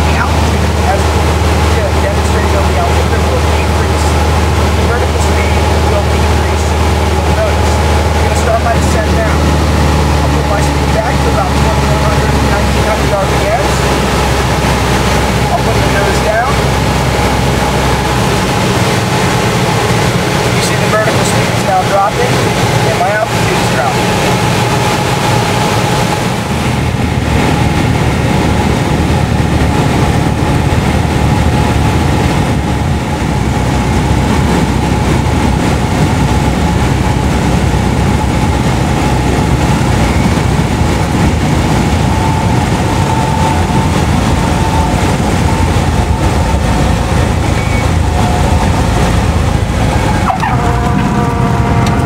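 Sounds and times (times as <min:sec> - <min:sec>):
airplane engine and propeller: 0:00.0 - 0:52.0.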